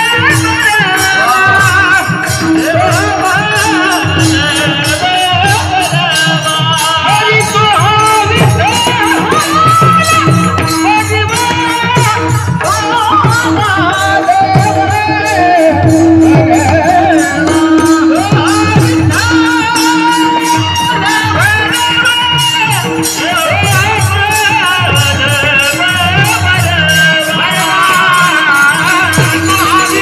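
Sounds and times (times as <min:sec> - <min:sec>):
drum strokes: 0:00.0 - 0:30.0
jingling percussion beat: 0:00.0 - 0:30.0
men singing devotional song: 0:00.0 - 0:30.0.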